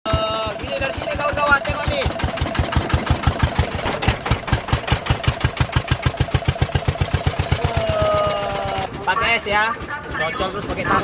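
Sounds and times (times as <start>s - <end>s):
small engine running: 0.1s - 11.0s.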